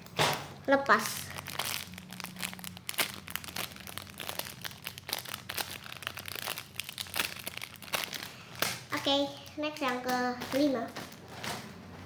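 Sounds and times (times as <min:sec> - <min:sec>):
plastic crinkling and rustling: 0:00.0 - 0:12.0.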